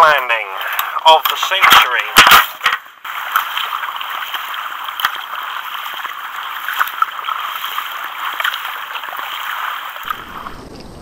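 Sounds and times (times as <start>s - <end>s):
paddle splashing and dripping: 0.0s - 11.0s
water washing around kayak: 0.0s - 11.0s.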